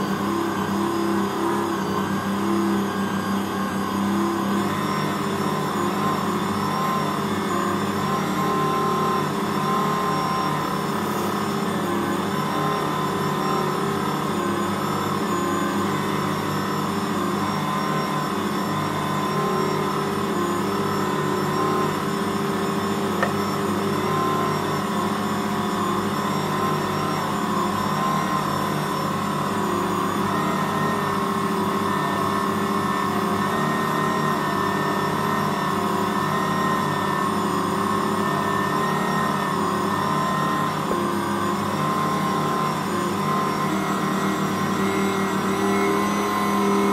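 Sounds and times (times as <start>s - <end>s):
stand mixer motor hum: 0.0s - 46.9s.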